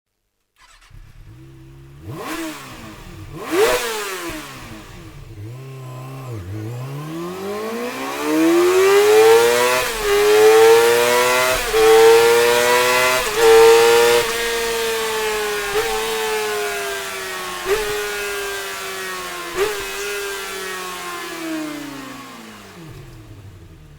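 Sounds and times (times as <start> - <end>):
motorcycle engine revving: 0.6 - 23.9.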